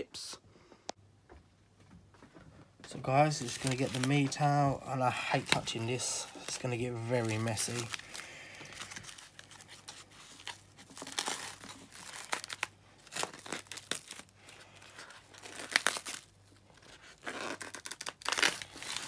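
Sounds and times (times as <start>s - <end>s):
plastic cling film crinkling: 2.9s - 19.0s.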